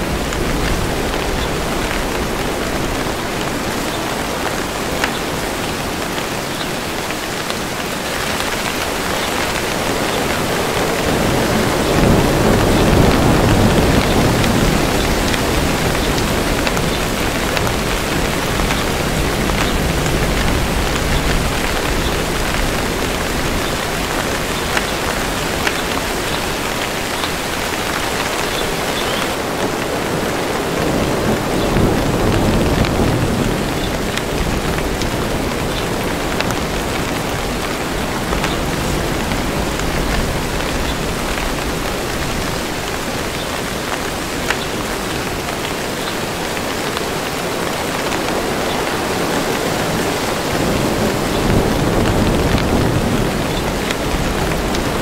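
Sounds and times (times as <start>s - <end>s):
rain falling on leaves: 0.0s - 55.0s
distant thunder rumble: 8.4s - 45.9s, 47.6s - 55.0s.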